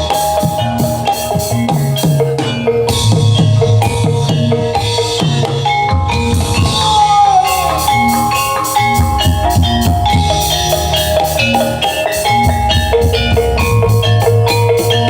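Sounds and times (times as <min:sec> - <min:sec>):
drums: 0:00.0 - 0:15.0
gongs and metallophones: 0:00.0 - 0:15.0
sliding melodic line: 0:00.0 - 0:15.0.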